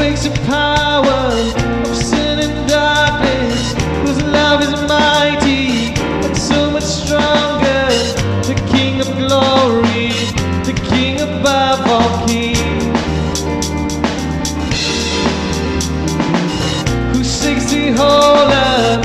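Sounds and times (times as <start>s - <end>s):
worship band music: 0.0s - 19.0s.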